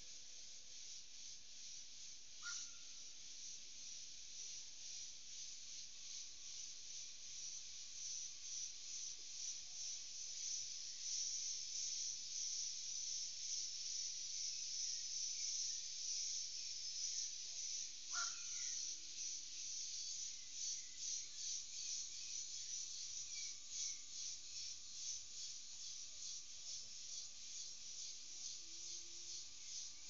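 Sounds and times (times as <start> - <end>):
insect chorus buzzing: 0.0 - 30.0.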